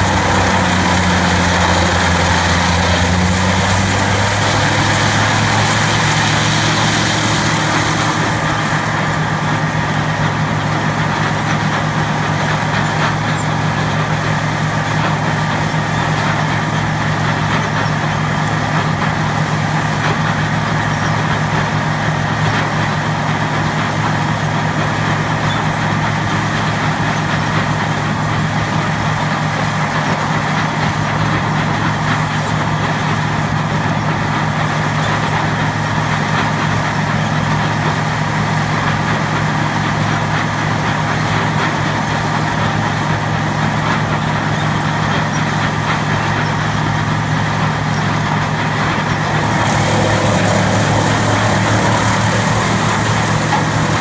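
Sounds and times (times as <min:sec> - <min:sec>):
wood chipper engine droning: 0:00.0 - 0:54.0.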